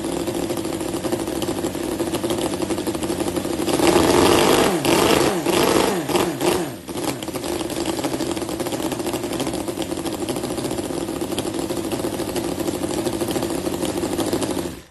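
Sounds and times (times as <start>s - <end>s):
model engine revving and idling: 0.0s - 14.9s.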